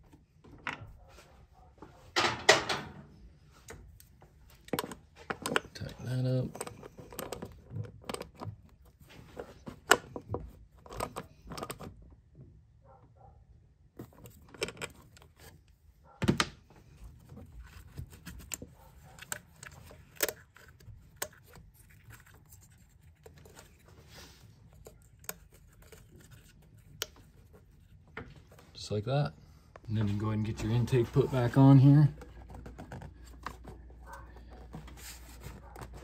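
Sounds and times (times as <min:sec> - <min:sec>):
plastic connector being handled: 0:03.6 - 0:12.0, 0:14.0 - 0:28.8, 0:29.7 - 0:36.0.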